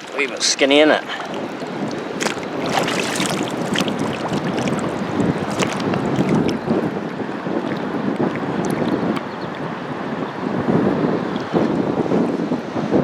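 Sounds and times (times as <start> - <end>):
river water splashing: 0.0 - 11.9
wind noise on microphone: 0.0 - 13.0.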